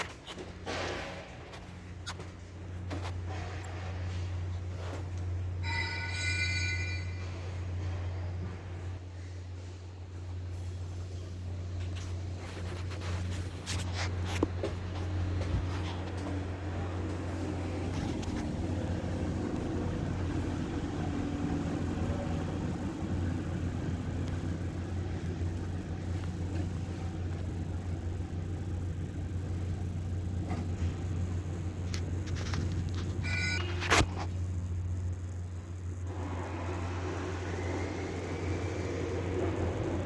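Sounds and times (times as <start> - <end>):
diesel engine running: 7.2 - 40.0.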